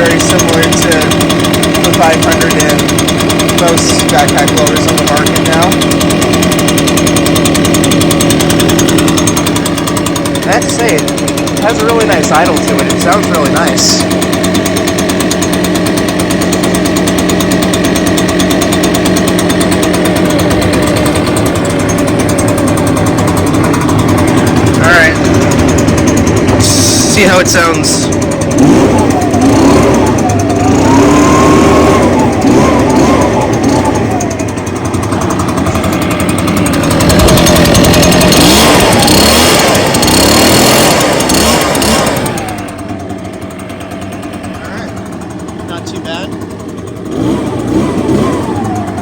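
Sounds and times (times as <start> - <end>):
leaf blower engine idling: 0.0 - 49.0.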